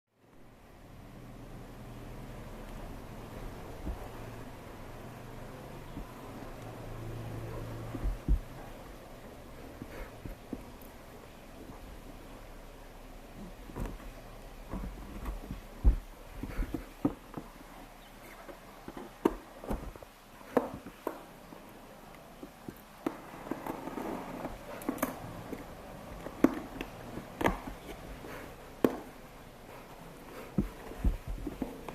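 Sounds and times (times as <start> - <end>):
parcel rustling: 2.4 - 31.9.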